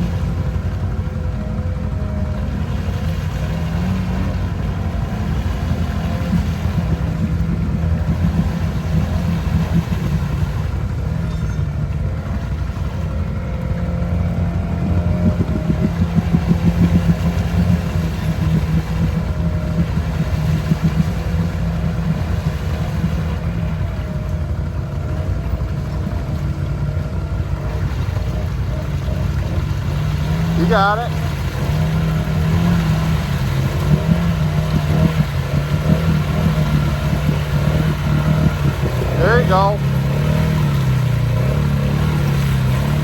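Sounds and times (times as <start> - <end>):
atv engine revving in mud: 0.0 - 43.0.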